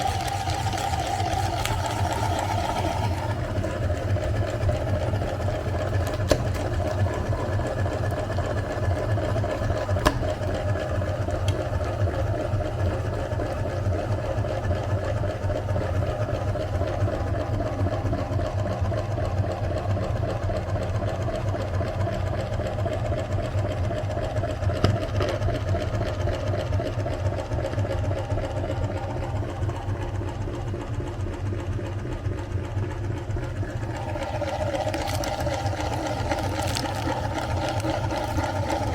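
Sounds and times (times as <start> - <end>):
electric meat grinder running: 0.0 - 38.9.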